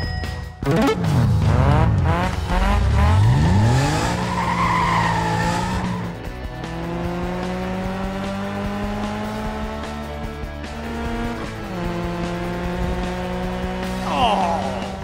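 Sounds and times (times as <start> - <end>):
background music: 0.0 - 15.0
cartoon car engine revving: 0.6 - 15.0.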